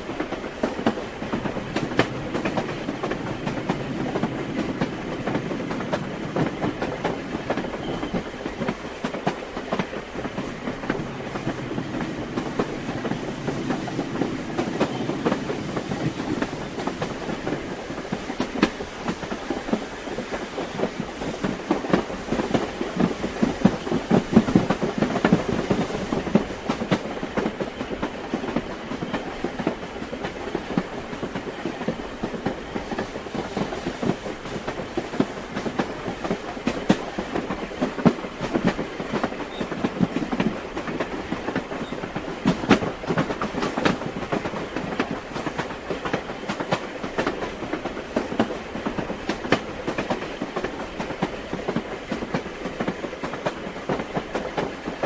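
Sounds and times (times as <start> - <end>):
railway carriage rumble: 0.0 - 55.0
train wheels clicking over rail joints: 0.0 - 55.0.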